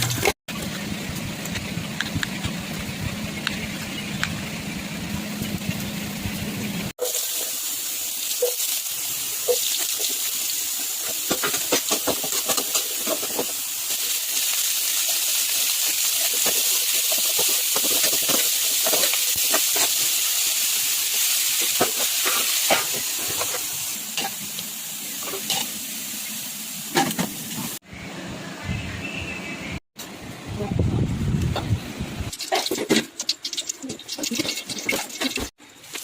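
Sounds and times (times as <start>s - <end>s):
food sizzling in hot oil: 0.0s - 27.8s, 32.1s - 36.0s.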